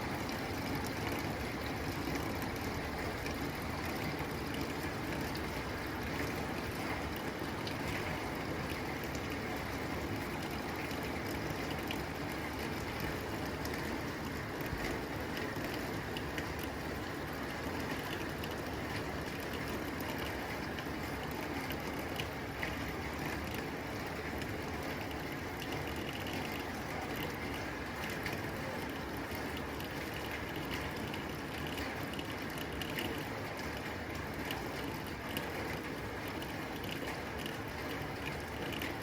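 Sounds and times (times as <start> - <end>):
rain on a tin roof: 0.0 - 39.0.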